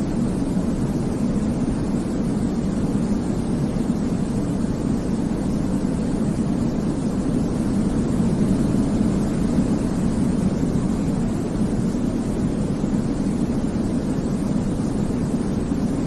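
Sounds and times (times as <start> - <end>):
low-pitched white noise hiss: 0.0 - 16.0.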